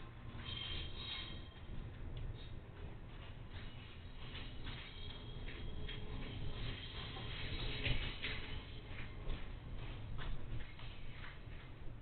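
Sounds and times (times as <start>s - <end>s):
low rumble of rolling wagons: 0.0s - 12.0s
train wheels clacking over rail joints: 0.4s - 11.7s.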